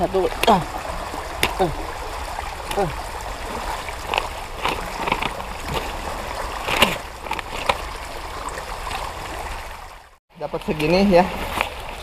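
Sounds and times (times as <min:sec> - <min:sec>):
river water running: 0:00.0 - 0:12.0
small splashes and knocks: 0:00.0 - 0:12.0.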